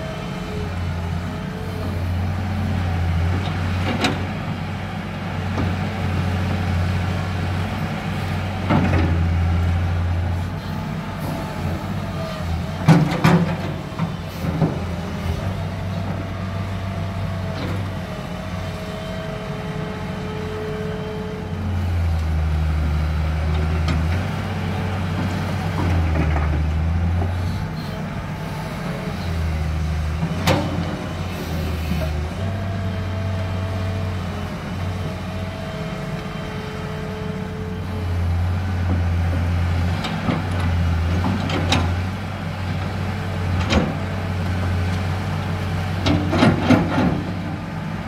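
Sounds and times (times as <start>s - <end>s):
excavator diesel engine working: 0.0s - 48.0s.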